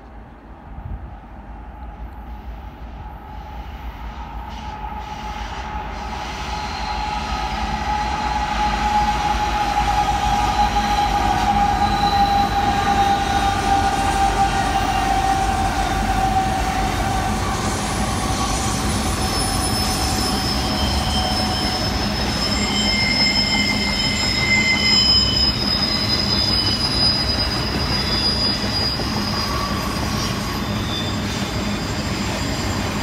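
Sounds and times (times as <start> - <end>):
diesel locomotive engine rumble: 0.0 - 33.0.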